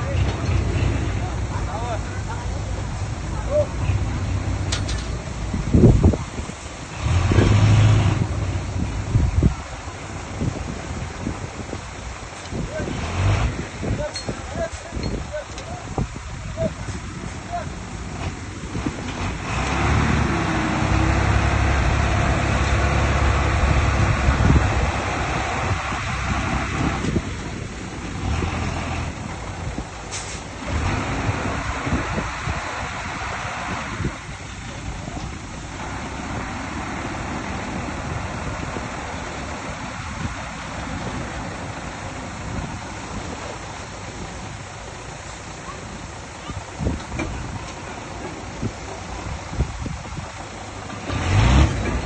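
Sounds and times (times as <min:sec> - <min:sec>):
heavy diesel engine running: 0:00.0 - 0:52.0
wind noise on microphone: 0:00.0 - 0:52.0.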